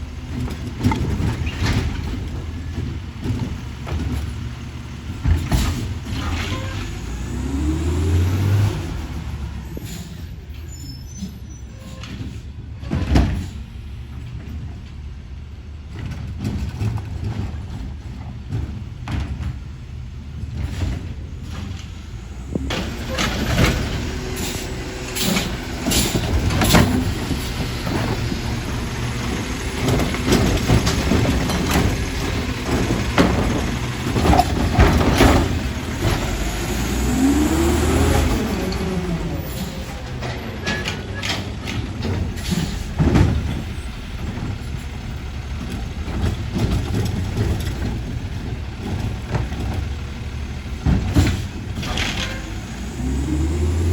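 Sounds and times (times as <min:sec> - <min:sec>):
clanks and knocks: 0:00.0 - 0:07.0, 0:11.9 - 0:15.0, 0:15.8 - 0:52.8
garbage truck engine rumble: 0:00.0 - 0:53.9.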